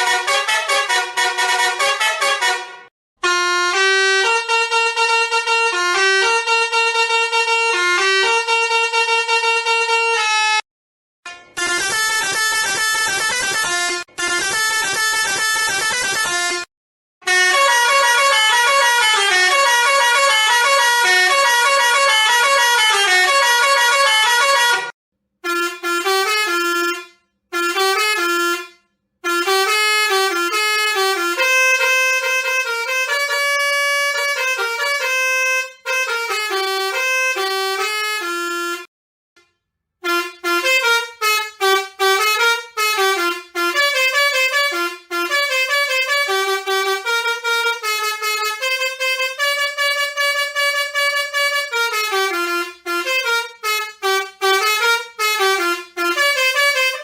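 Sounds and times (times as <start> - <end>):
truck musical air horn melody: 0.0 - 10.6, 11.2 - 57.0.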